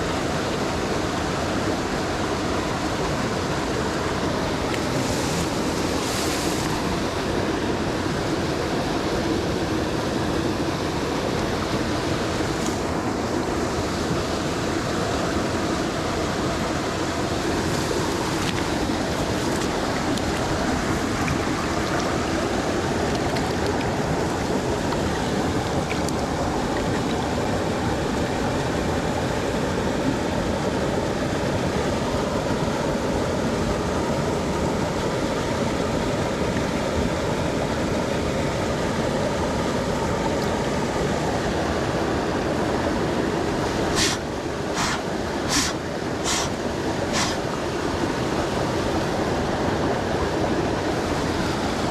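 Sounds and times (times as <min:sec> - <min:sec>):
mountain stream rushing: 0:00.0 - 0:51.9.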